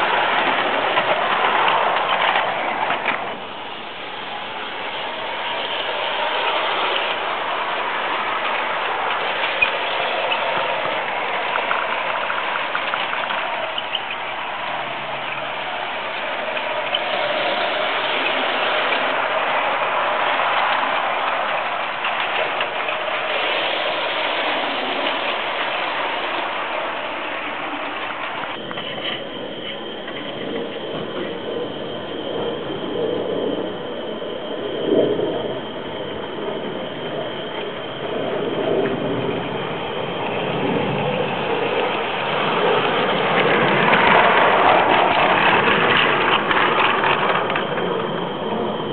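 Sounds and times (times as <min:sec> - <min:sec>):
model train whirring on rails: 0:00.0 - 0:48.9
wheels clicking on track: 0:00.0 - 0:48.9.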